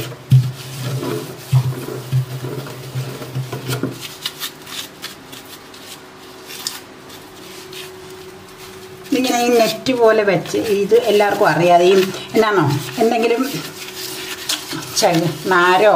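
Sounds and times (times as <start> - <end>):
scouring pad scrubbing steel sink: 0.0 - 6.0, 7.1 - 15.9.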